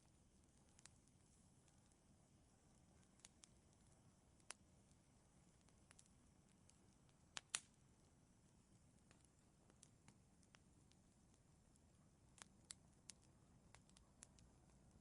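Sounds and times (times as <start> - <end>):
faint low fire hiss: 0.0 - 15.0
fire pops and snaps: 0.1 - 2.0, 2.8 - 7.8, 8.8 - 15.0.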